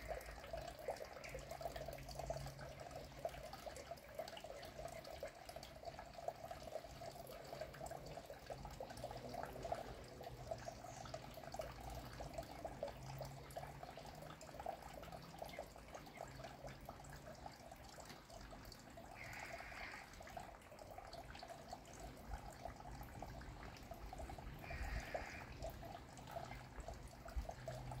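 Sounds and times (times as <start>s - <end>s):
water trickling into pond: 0.0s - 28.0s.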